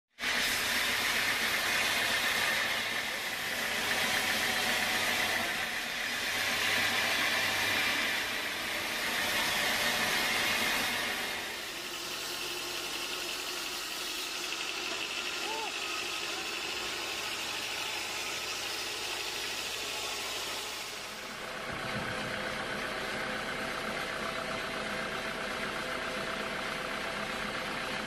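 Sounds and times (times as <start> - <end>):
band saw cutting log: 0.2 - 25.3.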